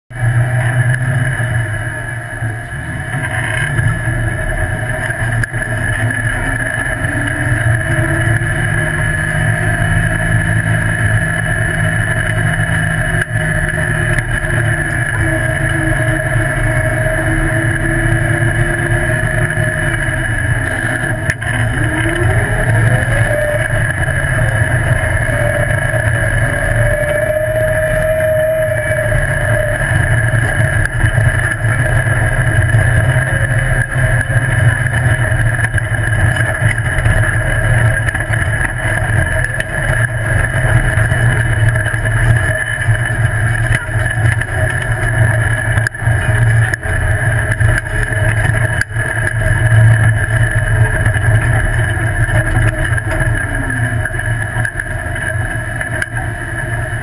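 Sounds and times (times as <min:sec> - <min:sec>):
buggy engine droning: 0:00.0 - 0:57.0.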